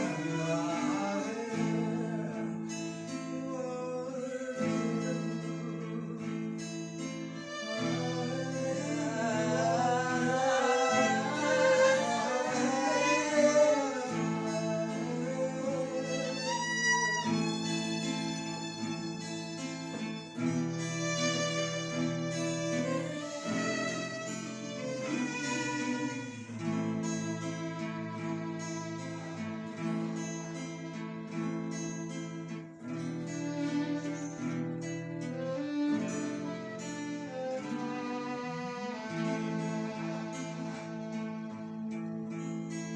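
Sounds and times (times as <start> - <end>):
violin melody with vibrato: 0.0 - 42.8
acoustic guitar chords: 0.0 - 42.9.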